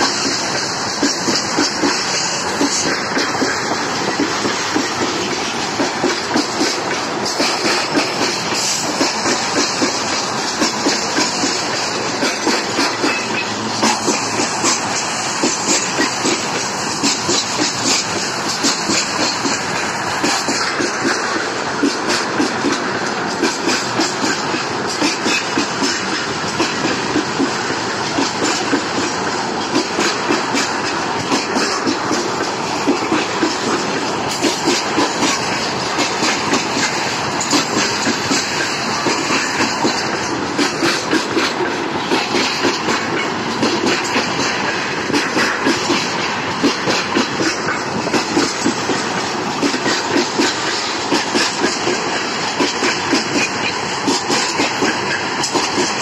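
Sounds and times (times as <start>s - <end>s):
freight train rumbling: 0.0s - 56.0s
wheels clickety-clack on joints: 0.0s - 56.0s.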